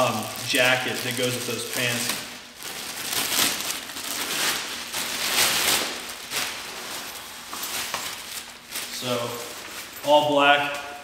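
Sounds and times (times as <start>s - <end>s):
jacket fabric rustling and crinkling: 0.0s - 11.0s.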